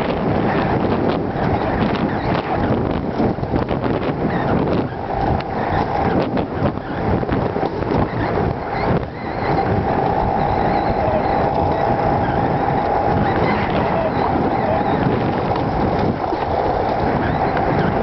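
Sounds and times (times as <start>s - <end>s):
coaster wheels clattering on rails: 0.0s - 18.0s.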